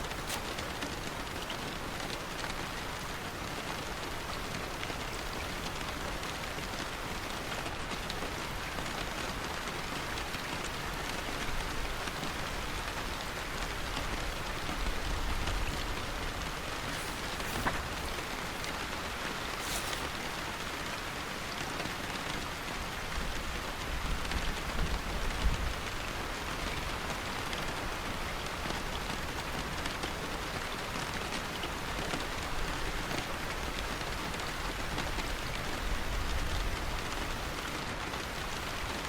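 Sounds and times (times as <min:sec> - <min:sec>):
dense rain falling: 0:00.0 - 0:39.0.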